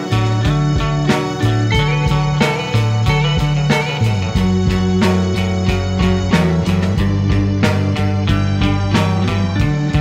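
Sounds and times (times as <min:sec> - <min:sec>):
rock band playing: 0:00.0 - 0:10.0.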